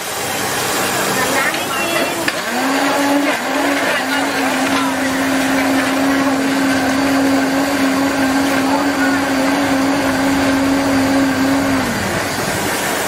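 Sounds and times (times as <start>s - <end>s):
electric blender motor running: 0.8s - 13.0s.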